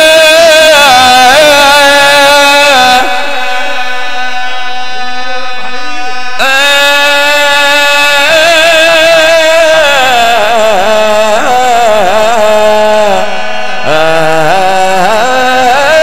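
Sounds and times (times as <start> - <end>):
man singing through loudspeakers: 0.0 - 16.0.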